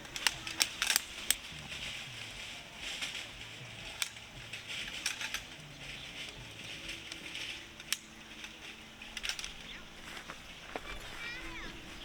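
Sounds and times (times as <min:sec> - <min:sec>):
small hard objects clinking: 0:00.0 - 0:11.6
faint steady hiss: 0:00.0 - 0:12.0.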